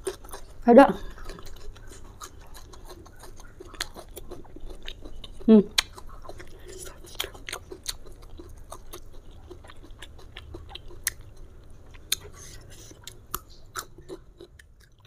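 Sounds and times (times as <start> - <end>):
chewing with crunches: 0.0 - 15.0.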